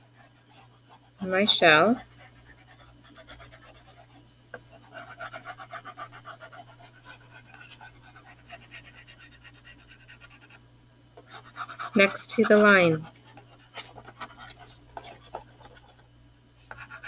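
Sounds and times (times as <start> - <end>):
crayon scratching on paper plate: 0.0 - 10.6, 11.2 - 16.1, 16.7 - 17.0.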